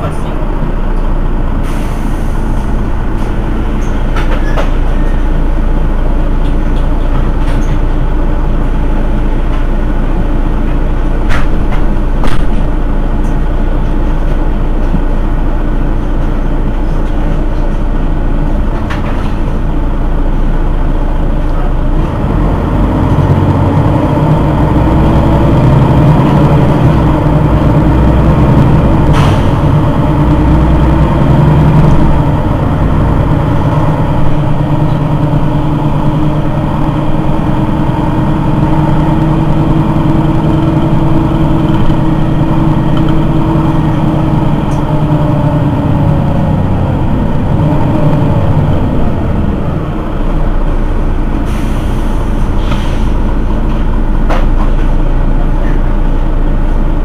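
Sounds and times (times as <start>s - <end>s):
bus diesel engine idling: 0.0s - 57.0s.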